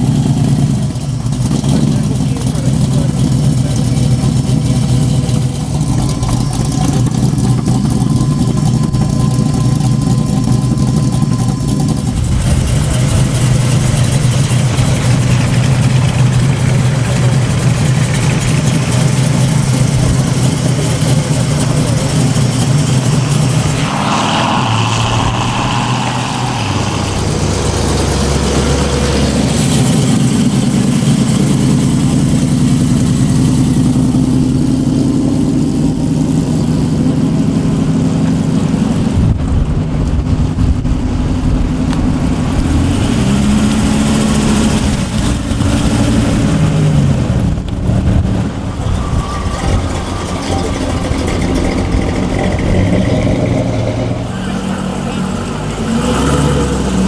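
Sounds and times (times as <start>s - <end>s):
car engine idling: 0.0s - 42.6s, 44.1s - 55.9s.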